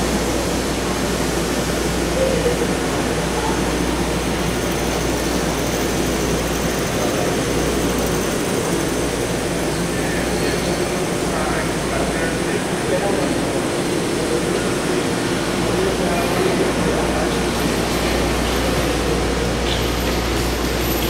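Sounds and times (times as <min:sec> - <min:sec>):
train mechanical noise: 0:00.0 - 0:21.0
train pulling out: 0:00.0 - 0:21.0.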